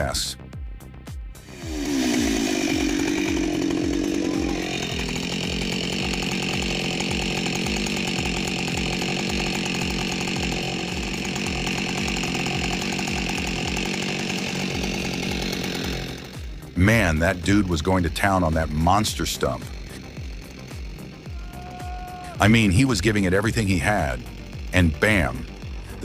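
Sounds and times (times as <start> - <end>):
chainsaw cutting wood: 1.4 - 26.0.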